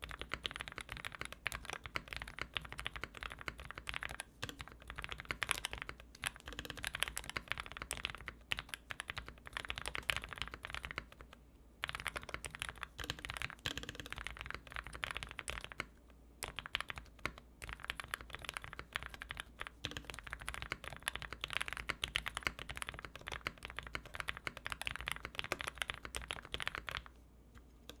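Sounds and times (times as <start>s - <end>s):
fast mechanical keyboard typing: 0.0s - 27.1s.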